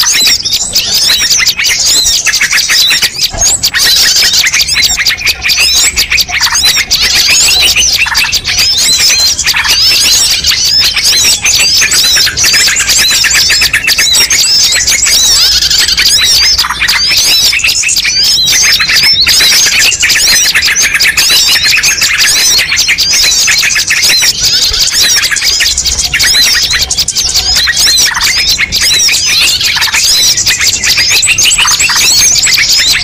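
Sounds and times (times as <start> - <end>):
songbirds chirping and trilling: 0.0 - 33.0.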